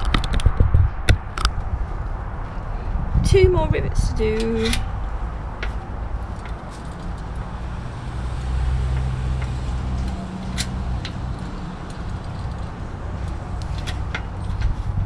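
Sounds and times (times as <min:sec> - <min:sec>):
low humming rumble: 0:00.6 - 0:15.0.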